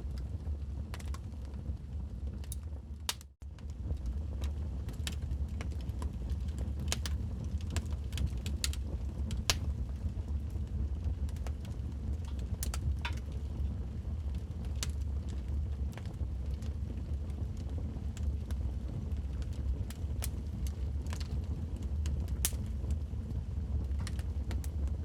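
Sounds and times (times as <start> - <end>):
logs crackling in a fireplace: 0.0 - 25.0
low rumble of fire: 0.0 - 25.0.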